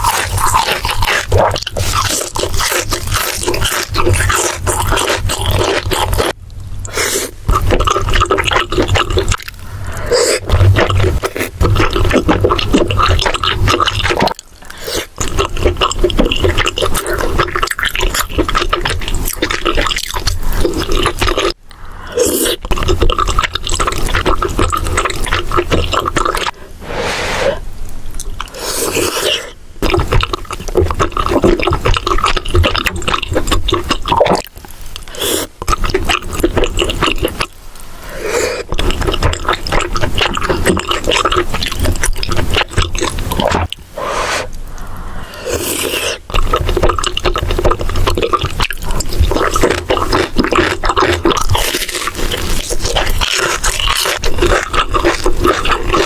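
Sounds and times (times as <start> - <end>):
wet chewing and slurping: 0.0 - 21.6, 22.2 - 26.6, 28.2 - 56.0.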